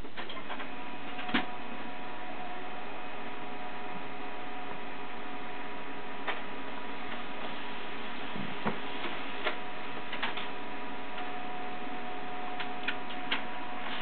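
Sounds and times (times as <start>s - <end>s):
laser printer whirring: 0.0s - 14.0s.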